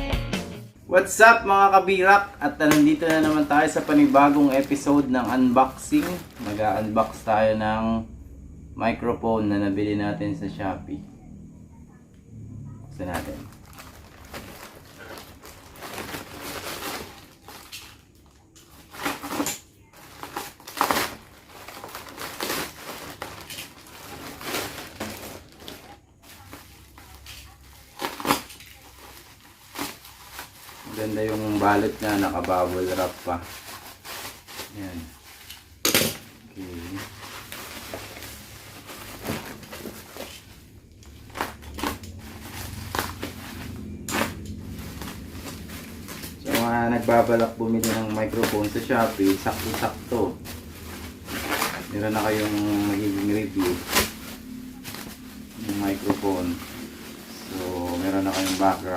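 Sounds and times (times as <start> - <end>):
low steady hum: 0.8 - 58.9
plastic packaging crinkling: 1.1 - 7.6, 12.9 - 58.9
bubble wrap crackles and rips: 1.2 - 7.6, 12.9 - 58.9.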